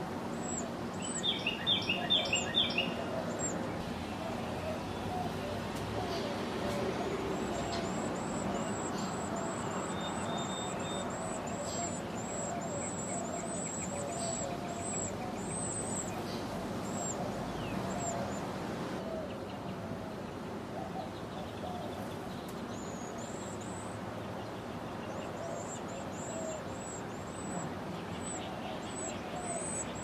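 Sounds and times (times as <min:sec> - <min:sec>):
background hiss: 0:00.0 - 0:30.0
birds chirping: 0:00.0 - 0:30.0.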